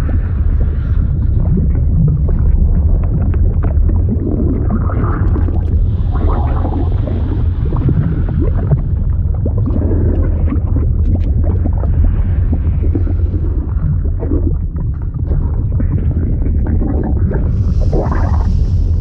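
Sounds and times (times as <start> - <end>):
deep liquid rumble: 0.0 - 19.0.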